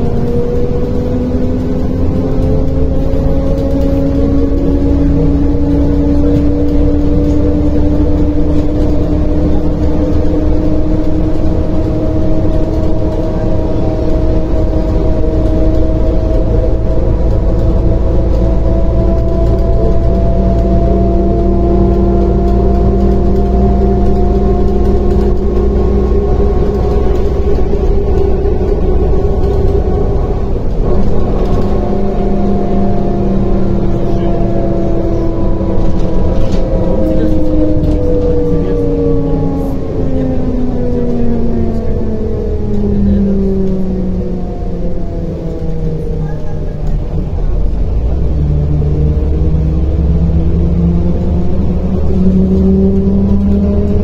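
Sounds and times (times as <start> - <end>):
bus engine and road rumble: 0.0 - 54.0
steady whining tone: 0.0 - 54.0.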